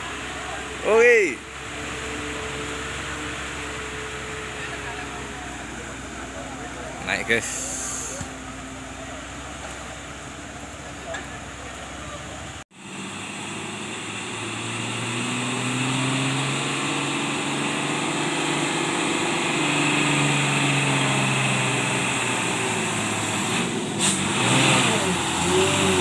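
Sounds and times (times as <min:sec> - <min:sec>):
truck engine labouring: 0:00.0 - 0:26.0.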